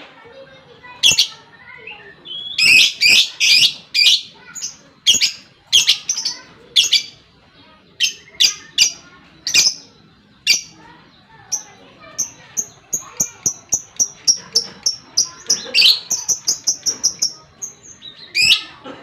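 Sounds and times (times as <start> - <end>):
bird shrill chirps: 0.9 - 7.2, 8.0 - 18.8.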